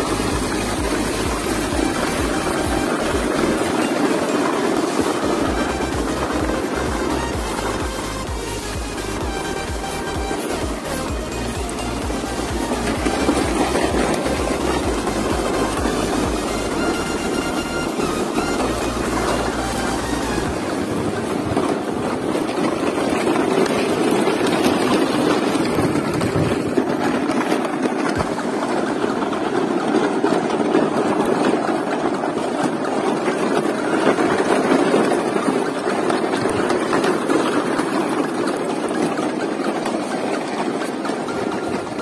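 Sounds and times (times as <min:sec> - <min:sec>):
plastic toy trucks rolling on dirt: 0:00.0 - 0:42.0.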